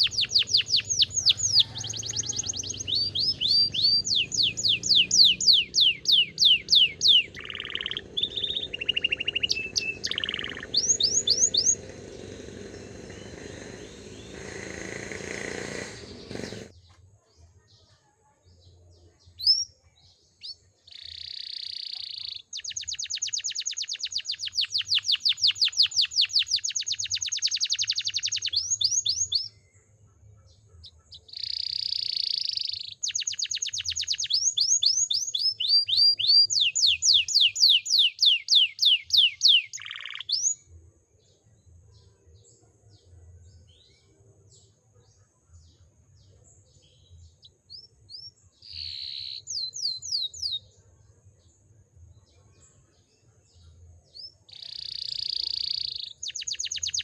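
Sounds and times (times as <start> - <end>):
canary singing trills: 0.0 - 16.9, 19.1 - 40.7, 41.7 - 50.8, 52.3 - 57.0.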